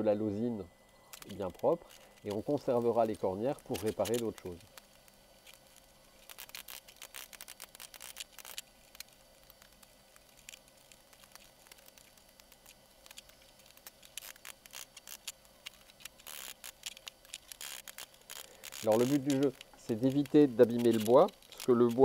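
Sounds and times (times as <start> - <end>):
faint metallic clicks and scrapes: 0.8 - 22.0.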